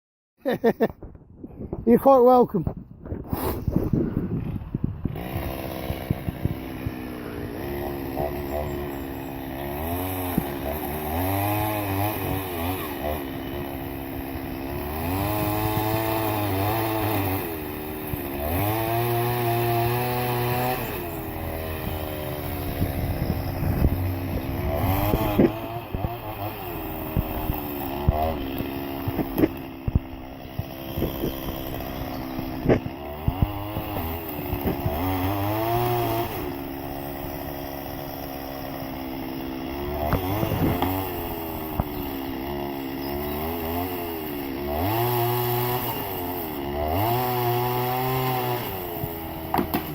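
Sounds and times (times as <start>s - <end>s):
chainsaw engine revving: 3.3s - 49.9s.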